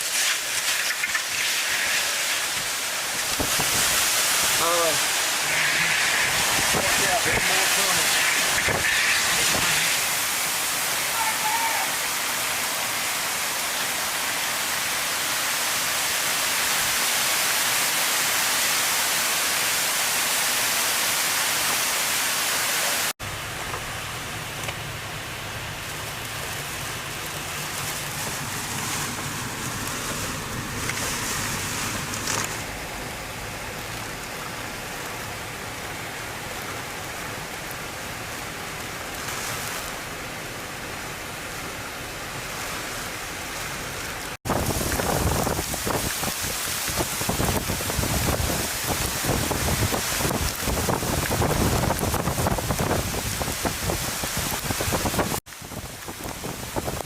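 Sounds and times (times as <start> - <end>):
heavy rain: 0.0 - 57.0
hurricane wind: 0.0 - 57.0.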